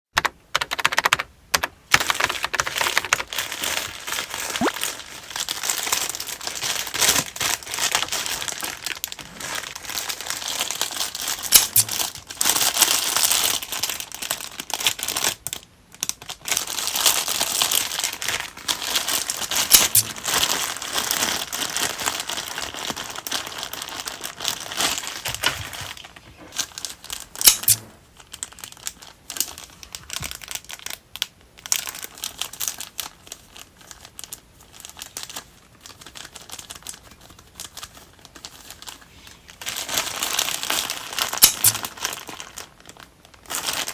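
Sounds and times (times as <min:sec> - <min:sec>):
packaging crinkling and rustling: 0:01.9 - 0:43.9.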